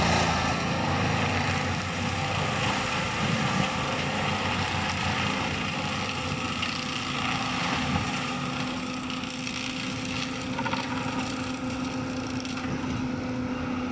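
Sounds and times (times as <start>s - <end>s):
mulcher grinding soil and brush: 0.0s - 13.9s
tractor diesel engine: 0.0s - 13.9s.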